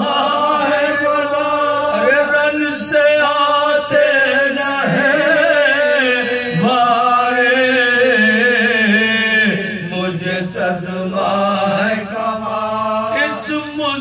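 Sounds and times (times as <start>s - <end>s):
man chanting with vibrato: 0.0s - 14.0s.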